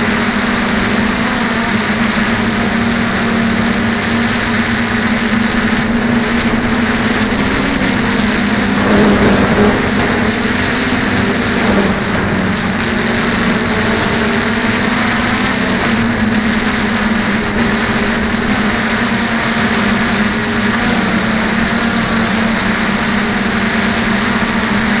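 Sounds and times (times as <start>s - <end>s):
drone motors and propellers humming: 0.0s - 25.0s
steady rushing noise: 0.0s - 25.0s.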